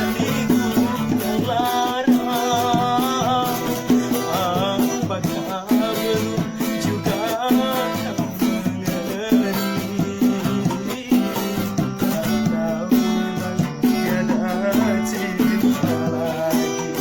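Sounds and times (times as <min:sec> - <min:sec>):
acoustic guitar: 0:00.0 - 0:17.0
shaker keeping a beat: 0:00.0 - 0:17.0.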